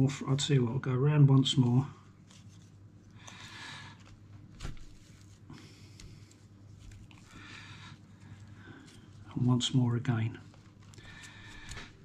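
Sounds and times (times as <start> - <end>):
faint rustle of strand: 1.6 - 3.2, 3.8 - 12.0.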